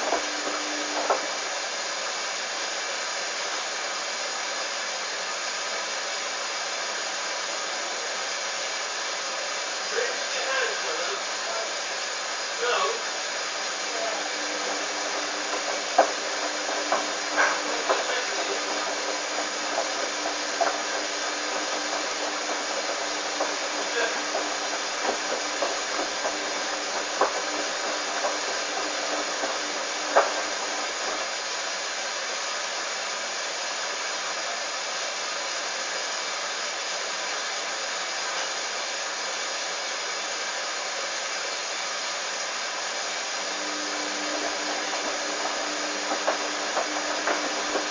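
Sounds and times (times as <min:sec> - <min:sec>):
washing machine whirring: 0:00.0 - 0:34.1, 0:43.0 - 0:47.9.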